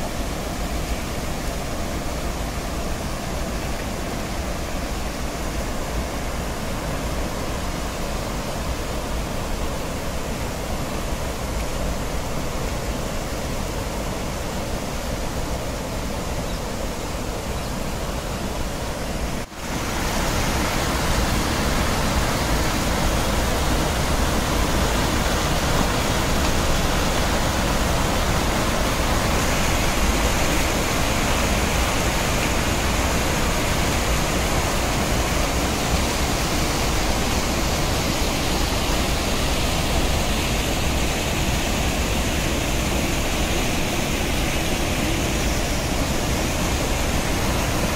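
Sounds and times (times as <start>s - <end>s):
water rushing over weir: 0.0s - 47.9s.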